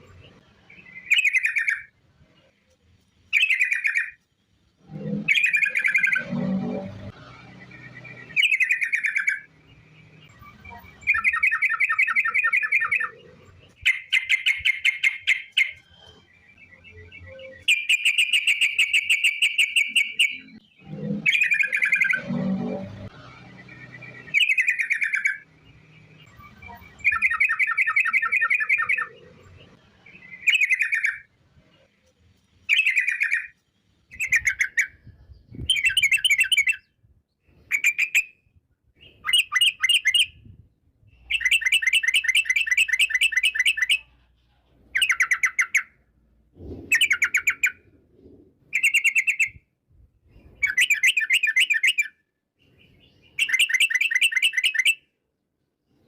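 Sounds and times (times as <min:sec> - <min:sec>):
bird singing rolling trills: 0:00.0 - 0:46.2, 0:46.9 - 0:49.7, 0:50.3 - 0:55.1.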